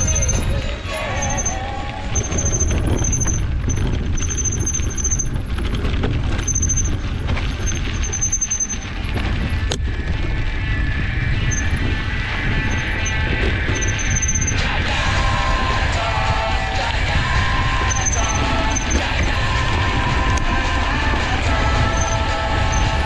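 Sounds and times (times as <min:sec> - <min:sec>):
high-pitched squeal: 0:00.0 - 0:23.0
tyres rumbling over dirt: 0:00.0 - 0:23.0
wind buffeting microphone: 0:00.0 - 0:23.0.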